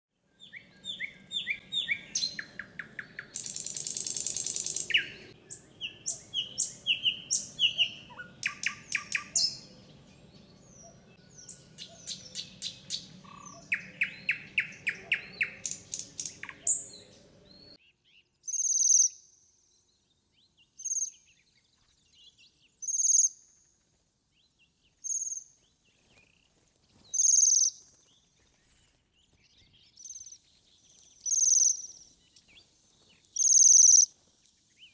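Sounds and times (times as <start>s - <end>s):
forest songbirds singing: 0.2s - 34.9s.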